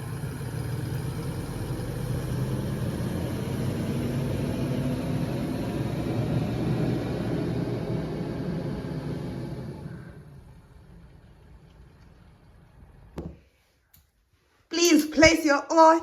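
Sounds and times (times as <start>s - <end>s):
vehicle engine hum with hiss: 0.0s - 13.2s.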